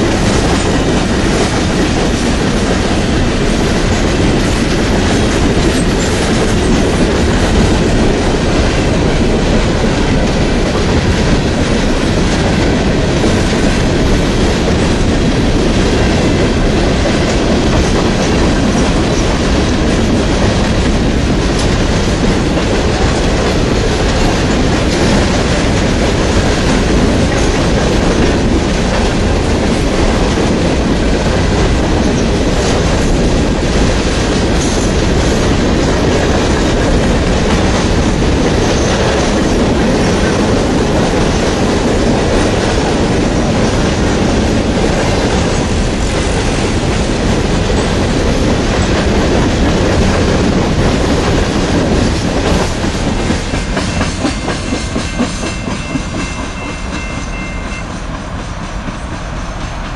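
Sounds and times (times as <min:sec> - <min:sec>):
freight train rumble: 0:00.0 - 0:59.9
steel wheels clattering on rails: 0:00.0 - 0:59.9.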